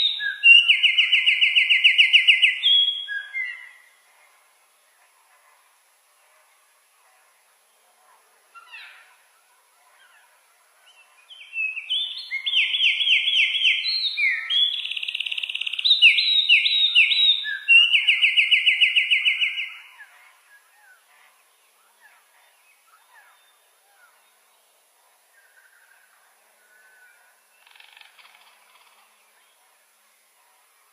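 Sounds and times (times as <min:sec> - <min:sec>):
faint bird chirps: 0:00.0 - 0:30.9
songbird singing: 0:00.0 - 0:30.9.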